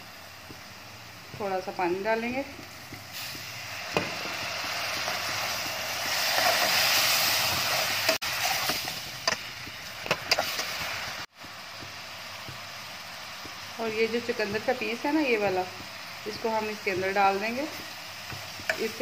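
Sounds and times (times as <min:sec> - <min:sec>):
water sizzling in hot oil: 0:00.0 - 0:19.0.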